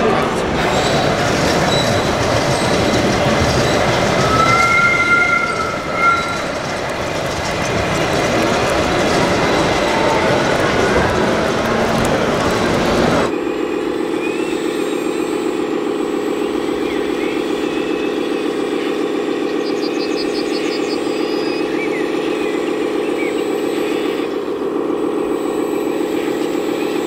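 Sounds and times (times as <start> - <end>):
low pulsing motor hum: 0.0 - 27.0.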